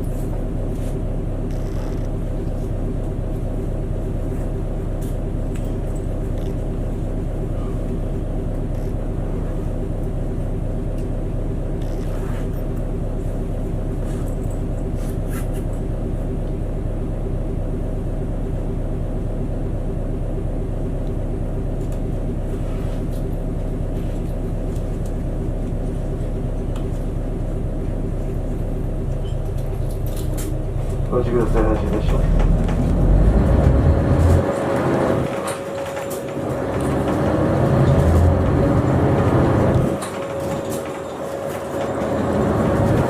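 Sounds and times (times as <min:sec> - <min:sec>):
bus engine idling: 0:00.0 - 0:43.0.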